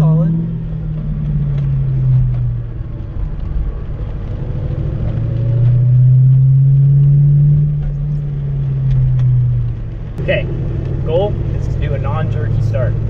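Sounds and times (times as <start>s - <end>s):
car engine drone from cabin: 0.0s - 13.0s.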